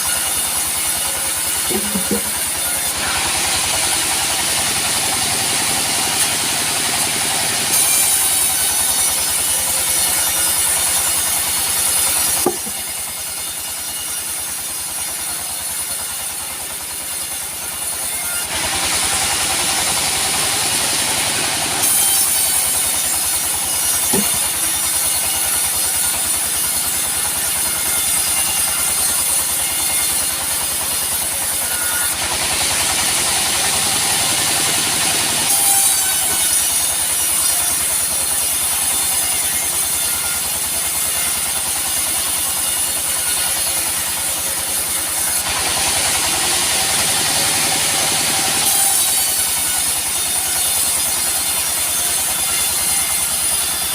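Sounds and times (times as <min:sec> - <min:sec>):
band saw blade cutting log: 0:00.0 - 0:53.9
sawmill machine running: 0:00.0 - 0:53.9.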